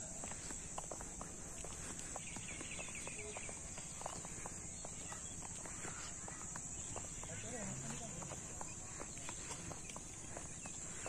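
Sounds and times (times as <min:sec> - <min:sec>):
footsteps on paved road: 0:00.0 - 0:11.0
high-pitched insect chorus: 0:00.0 - 0:11.0
bird twitter: 0:02.0 - 0:11.0.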